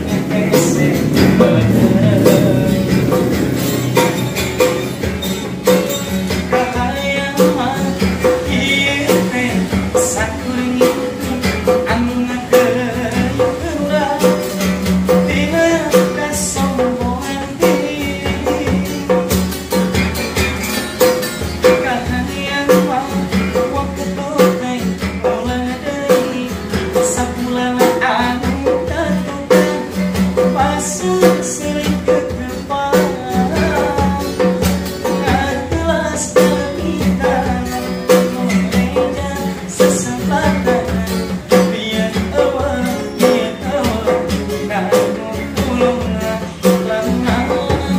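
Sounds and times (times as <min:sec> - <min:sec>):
man singing: 0:00.0 - 0:19.8, 0:21.6 - 0:47.9
hand drum beating: 0:00.0 - 0:47.9
strummed acoustic guitar: 0:00.0 - 0:47.9.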